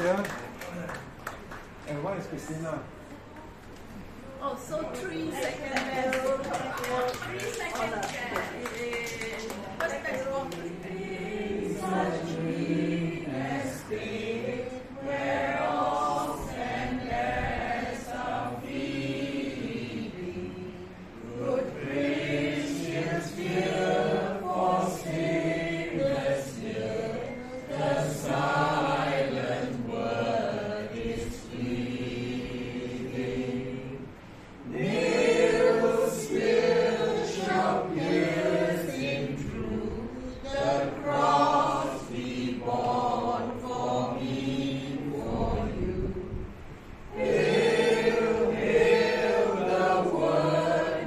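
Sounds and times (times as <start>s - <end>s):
group of people singing: 5.0s - 51.0s.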